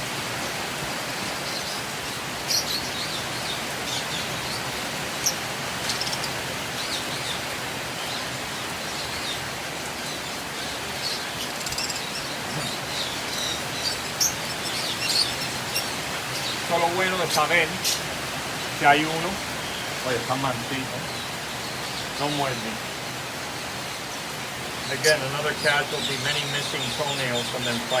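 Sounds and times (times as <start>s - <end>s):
background hiss: 0.0s - 28.0s
lovebirds chirping: 0.0s - 28.0s.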